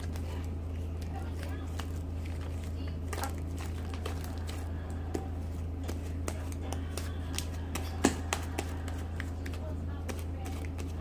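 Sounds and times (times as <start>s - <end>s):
hands squishing slime: 0.0s - 11.0s
steady low hum: 0.0s - 11.0s.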